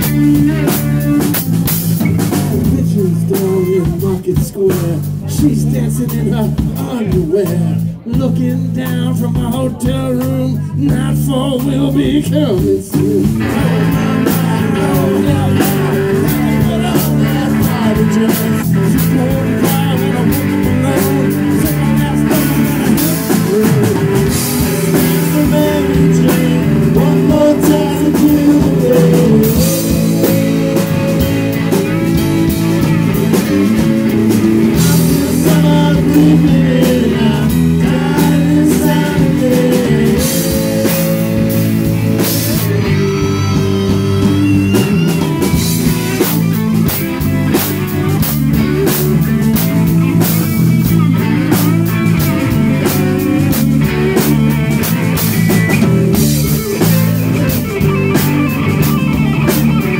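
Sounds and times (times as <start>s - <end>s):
drum kit: 0.0s - 59.9s
electric guitars: 0.0s - 59.9s
man singing: 0.0s - 59.9s.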